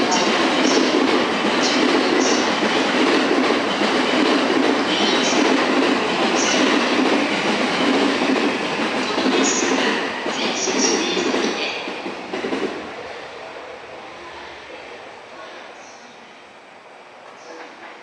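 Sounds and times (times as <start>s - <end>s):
train wheels rumbling on rails: 0.0s - 15.7s.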